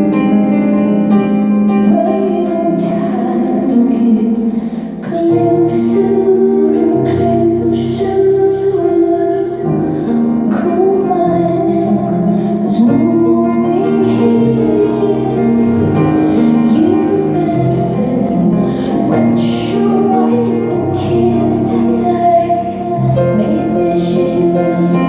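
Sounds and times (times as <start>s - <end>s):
instrumental accompaniment: 0.0s - 25.0s
woman singing: 1.7s - 25.0s.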